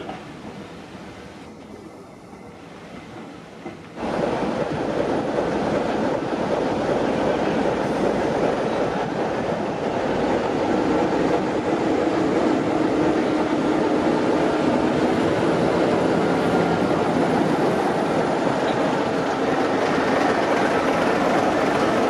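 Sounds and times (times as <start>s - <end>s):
locomotive engine hum: 0.0s - 22.0s
train wheels rumbling on track: 0.0s - 22.0s.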